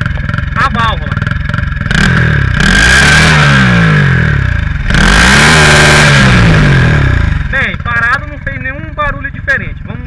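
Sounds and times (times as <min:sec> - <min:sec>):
high turbo whine: 0:00.0 - 0:10.0
motorcycle engine revving: 0:00.0 - 0:10.0.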